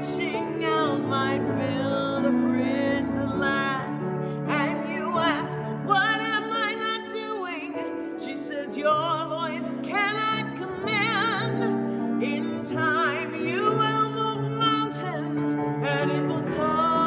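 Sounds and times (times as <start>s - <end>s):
grand piano: 0.0s - 17.0s
woman singing with vibrato: 0.0s - 17.0s.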